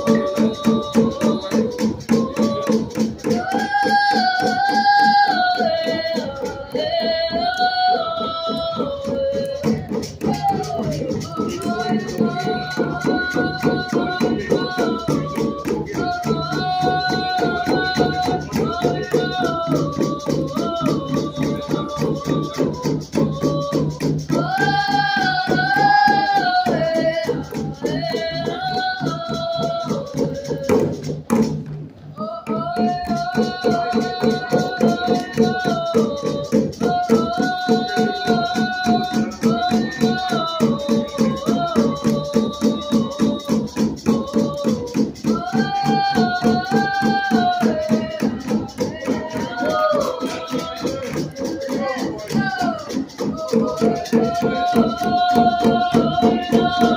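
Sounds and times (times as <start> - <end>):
group singing in unison: 0.0 - 31.6, 32.2 - 56.9
steady drumbeat: 0.0 - 56.9.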